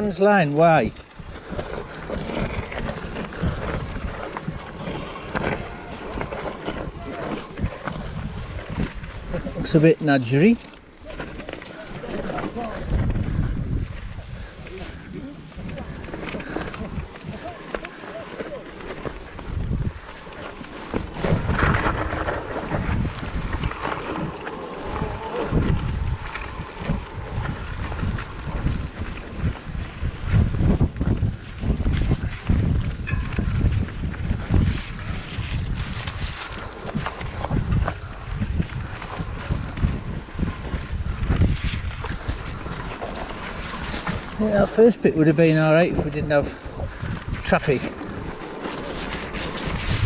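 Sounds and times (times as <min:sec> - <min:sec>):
bike knocking and rattling: 0:00.0 - 0:50.0
tyre and wind rush: 0:00.0 - 0:50.0.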